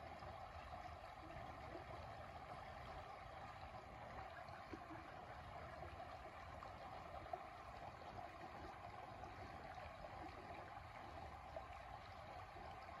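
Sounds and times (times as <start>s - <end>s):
creek water babbling over rocks: 0.0s - 13.0s.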